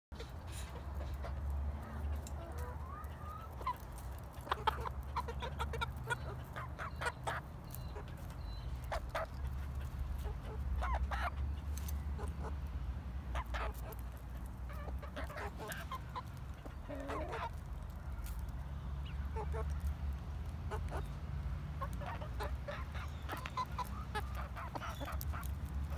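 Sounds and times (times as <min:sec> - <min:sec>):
chickens clucking: 0:00.1 - 0:25.9
chicks cheeping: 0:00.1 - 0:25.9.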